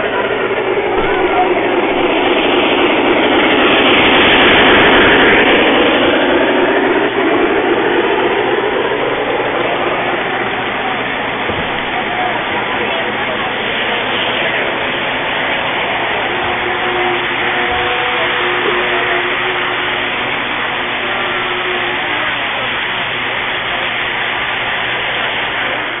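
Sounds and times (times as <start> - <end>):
model train wheels rumbling on track: 0.0 - 26.0.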